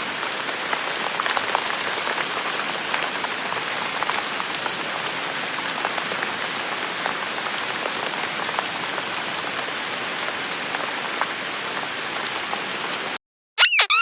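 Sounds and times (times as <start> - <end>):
rain falling: 0.0 - 13.2.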